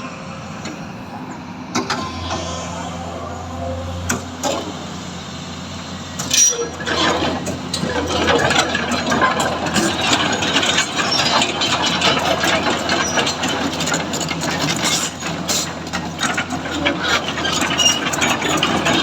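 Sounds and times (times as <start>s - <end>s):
excavator diesel engine: 0.0s - 19.0s.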